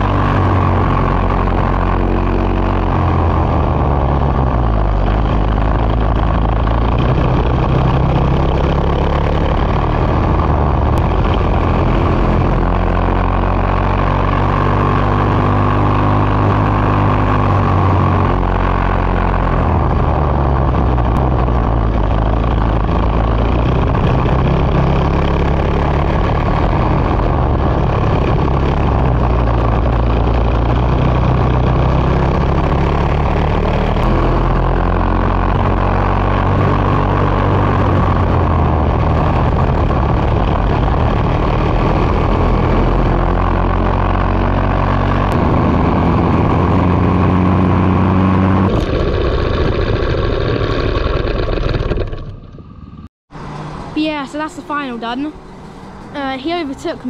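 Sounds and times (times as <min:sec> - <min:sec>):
racing kart engine running hard: 0:00.0 - 0:53.8.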